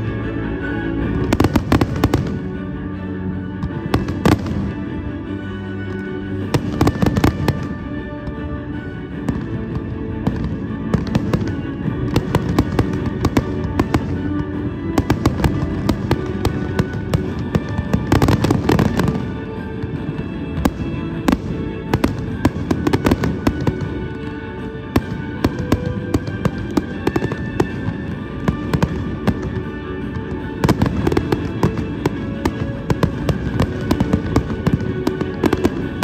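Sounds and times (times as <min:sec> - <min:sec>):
fireworks bangs and crackles: 0:00.0 - 0:36.0
music playing: 0:00.0 - 0:36.0.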